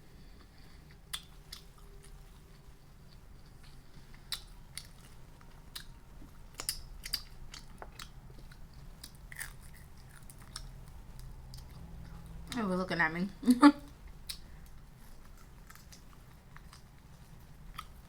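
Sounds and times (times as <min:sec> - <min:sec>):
person chewing crunchy food: 0:00.2 - 0:12.4, 0:14.0 - 0:18.0.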